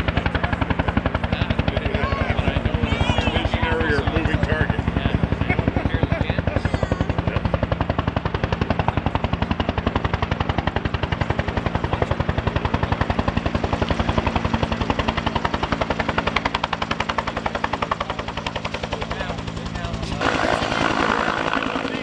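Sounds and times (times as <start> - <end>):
helicopter rotor blade slap: 0.0 - 22.0.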